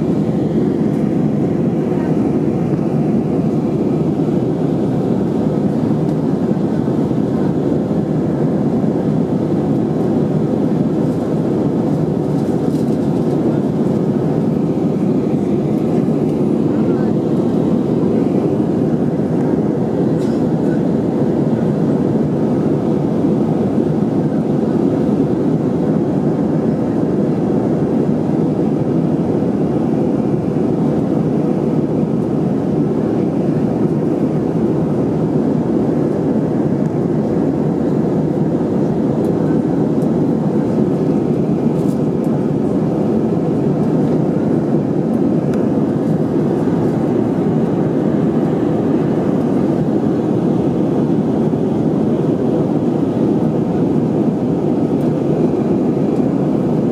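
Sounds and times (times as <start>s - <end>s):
airliner engine and airflow noise: 0.0s - 56.9s.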